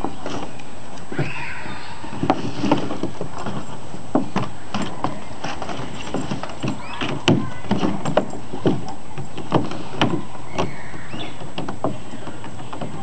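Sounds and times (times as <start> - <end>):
plastic pool rim crackling and clacking: 2.2 - 13.0.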